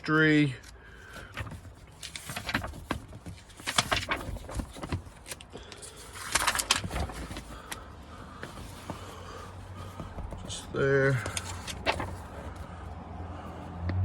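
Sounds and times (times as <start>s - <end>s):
paper booklet pages rustling: 0.1s - 12.8s.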